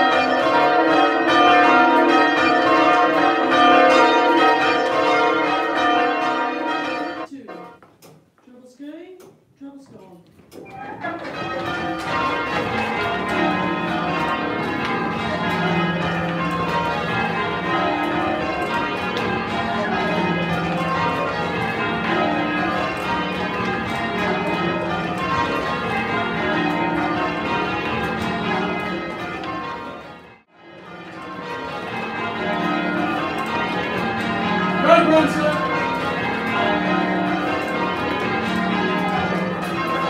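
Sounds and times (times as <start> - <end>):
church bells change ringing: 0.0 - 7.8, 10.9 - 40.0.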